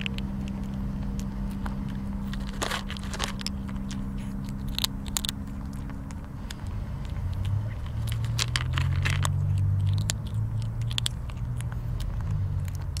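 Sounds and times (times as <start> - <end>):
kitten crunching dry kibble: 0.0 - 13.0
low hum: 0.0 - 13.0.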